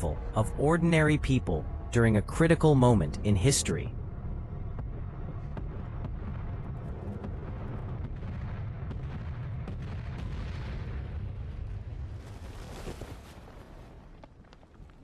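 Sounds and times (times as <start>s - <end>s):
low battle rumble: 0.0s - 15.0s.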